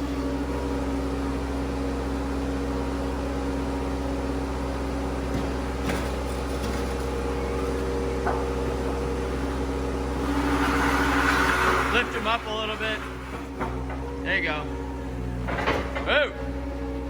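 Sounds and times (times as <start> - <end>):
skid steer engine running: 0.0 - 17.0.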